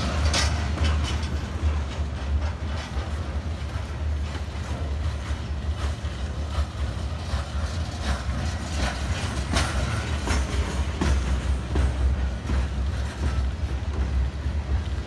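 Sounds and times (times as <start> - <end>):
freight train rolling past: 0.0 - 15.0
wheels clicking over rail joints: 0.0 - 15.0.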